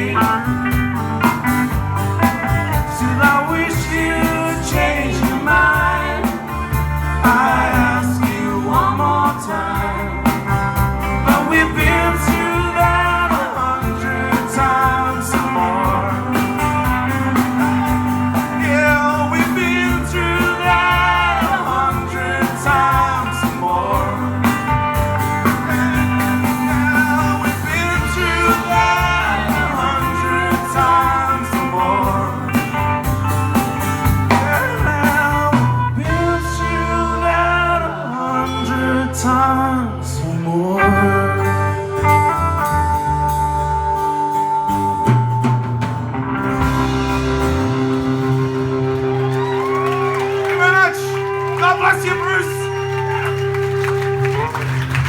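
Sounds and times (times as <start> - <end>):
live band playing country-rock: 0.0 - 55.0.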